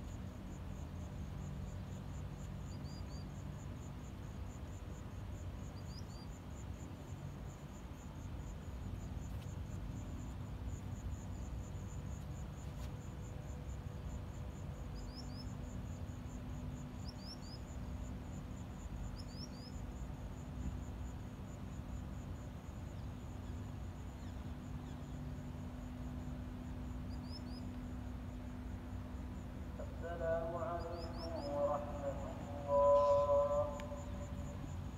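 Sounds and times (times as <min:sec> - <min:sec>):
crickets chirping: 0:00.0 - 0:34.9
steady low hum: 0:00.0 - 0:34.9.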